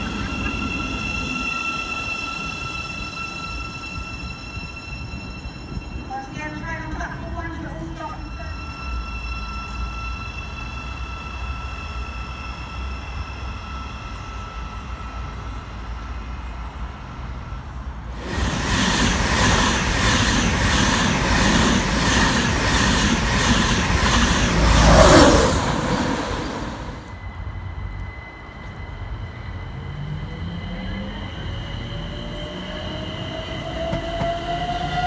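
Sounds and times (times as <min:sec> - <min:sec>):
express train passing at speed: 0:00.0 - 0:35.0.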